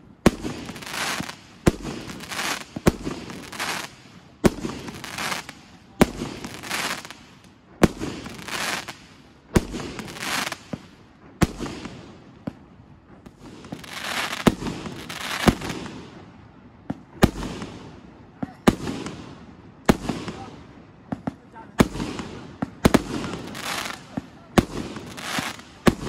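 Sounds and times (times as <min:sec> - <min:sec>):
fireworks bangs: 0:00.0 - 0:26.0
fireworks crackling fizz: 0:00.0 - 0:26.0.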